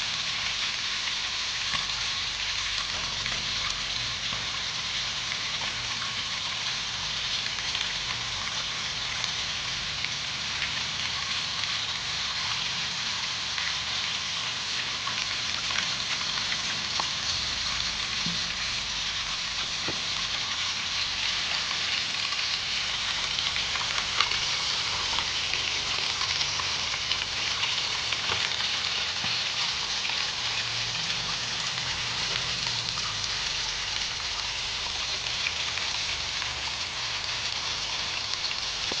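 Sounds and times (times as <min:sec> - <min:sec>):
fish sizzling in a pan: 0:00.0 - 0:39.0.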